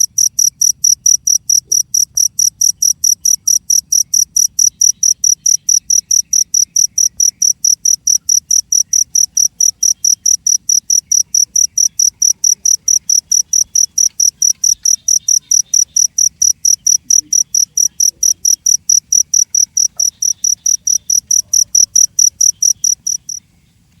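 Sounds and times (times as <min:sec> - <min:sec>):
cricket chirping: 0:00.0 - 0:23.6.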